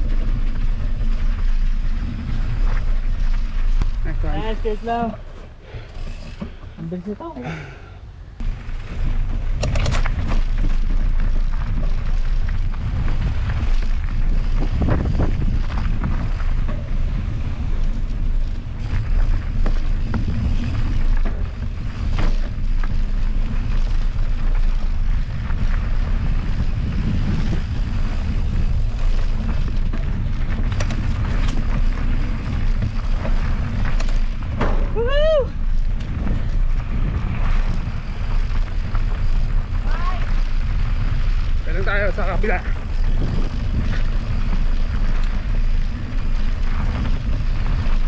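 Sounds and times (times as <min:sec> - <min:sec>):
bike knocking and rattling: 0:00.0 - 0:07.2, 0:08.4 - 0:48.0
tyre noise: 0:00.0 - 0:48.0
wind buffeting microphone: 0:00.0 - 0:48.0.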